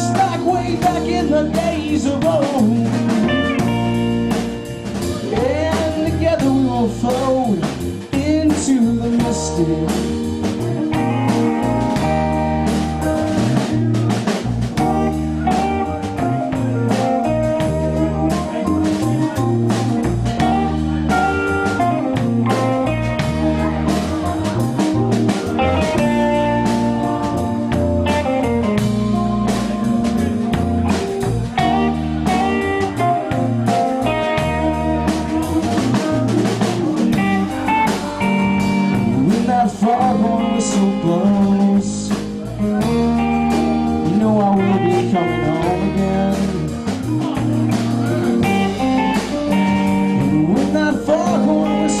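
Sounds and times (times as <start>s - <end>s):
bass guitar: 0.0s - 52.0s
drum kit beat: 0.0s - 52.0s
guitar melody: 0.0s - 52.0s.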